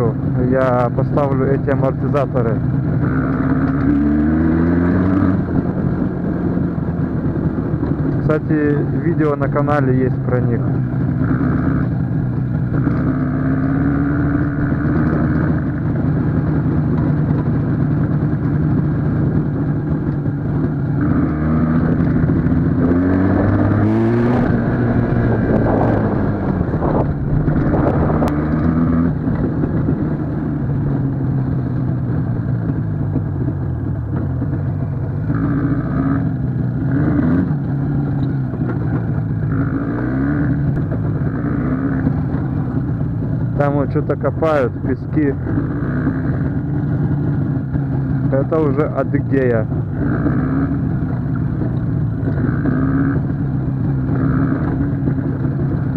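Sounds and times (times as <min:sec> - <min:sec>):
two-stroke motorcycle engine: 0:00.0 - 0:55.9.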